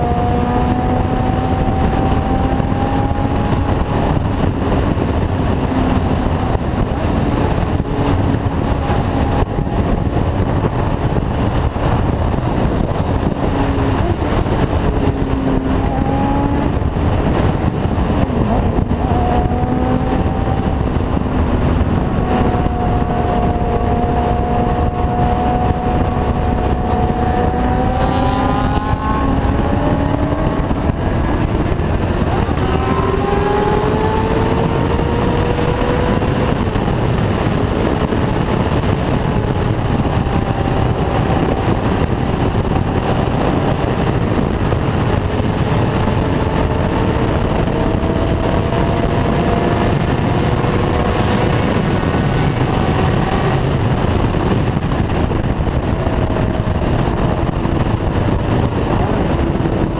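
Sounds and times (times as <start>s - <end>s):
motorcycle engine at speed: 0.0s - 59.9s
wind rushing on microphone: 0.0s - 59.9s.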